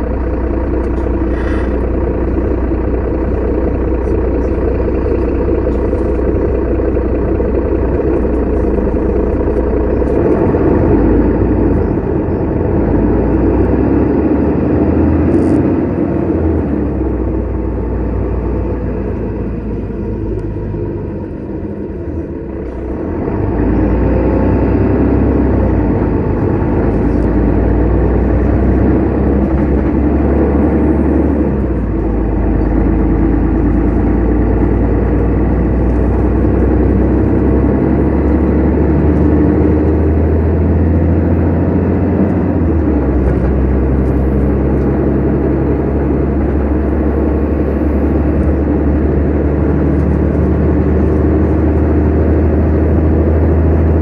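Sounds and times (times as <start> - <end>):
bus engine: 0.0 - 54.0
road noise: 0.0 - 54.0.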